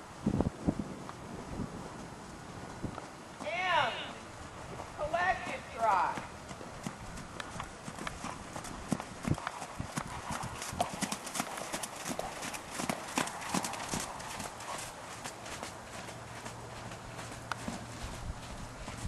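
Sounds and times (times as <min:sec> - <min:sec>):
horse hooves trotting on mud: 0:01.0 - 0:19.0.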